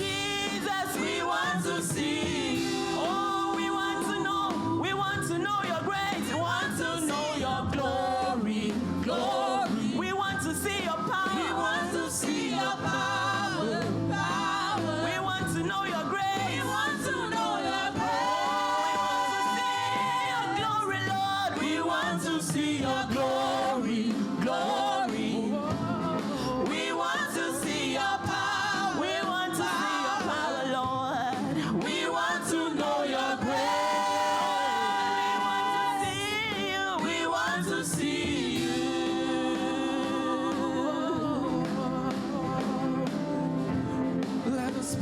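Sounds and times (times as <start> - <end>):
church choir singing: 0.0 - 44.0.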